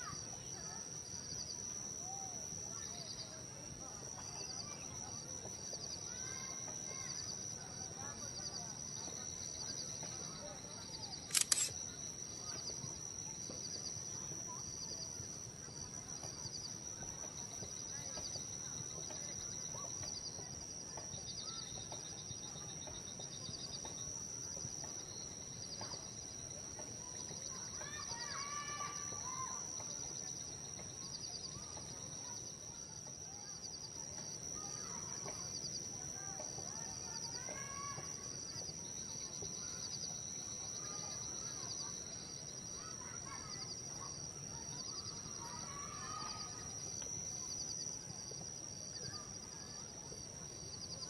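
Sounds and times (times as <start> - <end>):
faint insect chirp: 0.0 - 51.0.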